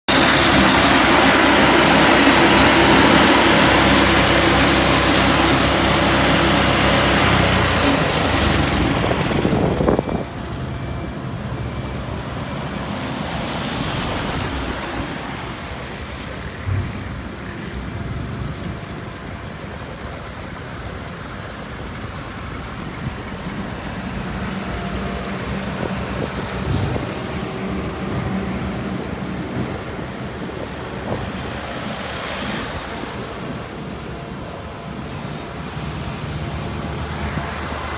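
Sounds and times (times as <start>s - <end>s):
passing traffic: 0.0s - 37.9s
road roller engine: 0.0s - 37.9s
wind: 0.0s - 37.9s
road saw grinding asphalt: 0.1s - 37.9s.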